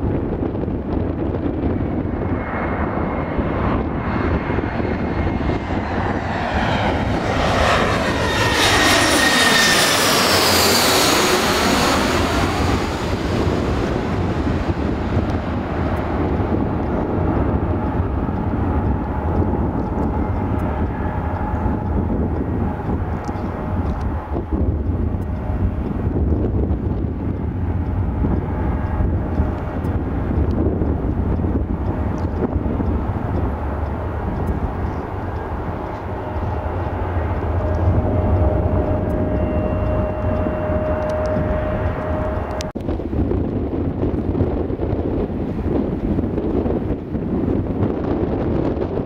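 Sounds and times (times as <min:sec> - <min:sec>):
jet airliner engines whining: 0:00.0 - 0:49.0
wind buffeting microphone: 0:00.0 - 0:49.0.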